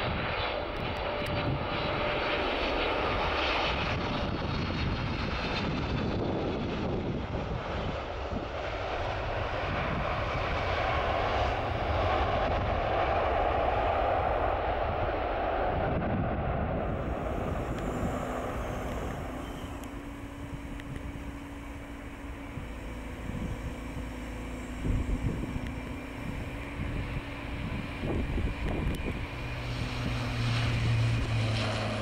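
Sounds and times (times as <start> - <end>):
jet engines rumbling: 0.0 - 32.0
wind buffeting microphone: 0.0 - 32.0.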